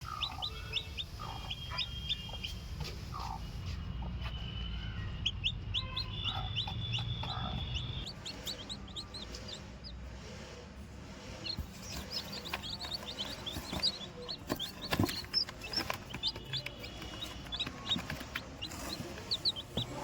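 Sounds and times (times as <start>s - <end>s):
chickens clucking: 0.0s - 4.5s, 5.2s - 10.2s, 11.2s - 20.0s
chickens chirping: 0.0s - 10.1s, 11.2s - 20.0s.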